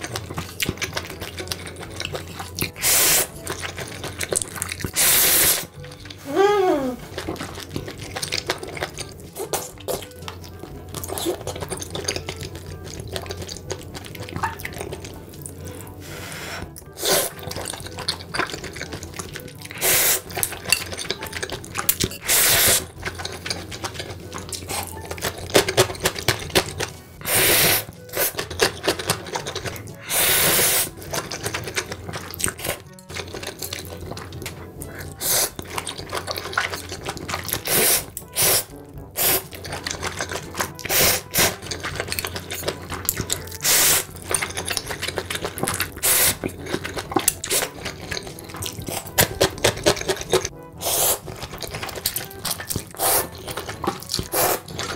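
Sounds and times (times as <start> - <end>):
noodles slurped: 0.0 - 54.9
wet chewing and smacking: 0.0 - 54.9.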